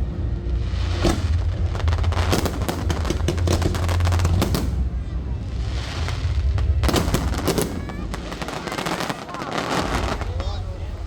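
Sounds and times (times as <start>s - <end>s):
low rumble: 0.0s - 9.2s
fireworks crackling: 0.0s - 11.0s
fireworks hiss: 0.0s - 11.0s.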